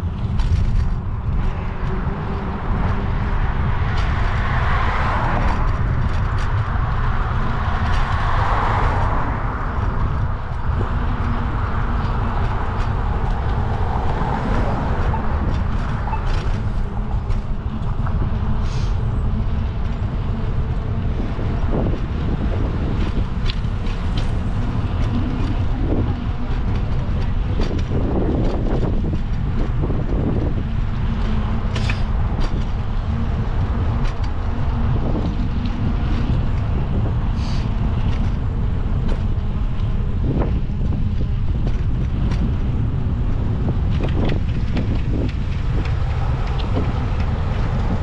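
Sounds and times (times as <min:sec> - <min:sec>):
street traffic noise: 0:00.0 - 0:48.0
wind buffeting microphone: 0:00.0 - 0:48.0.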